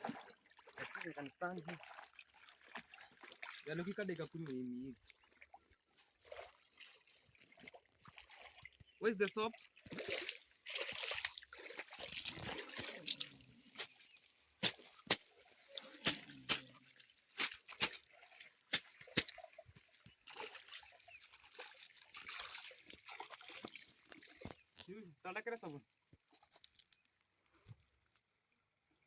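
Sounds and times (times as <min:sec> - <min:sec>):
river water sloshing and splashing: 0:00.0 - 0:25.0
short sharp splashes and drips: 0:00.0 - 0:27.0.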